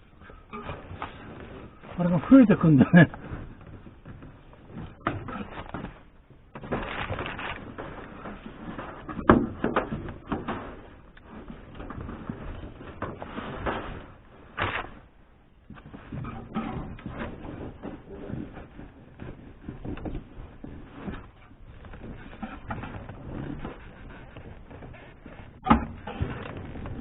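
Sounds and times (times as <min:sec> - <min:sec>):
rustling and scraping of trim panels: 0:00.0 - 0:27.0.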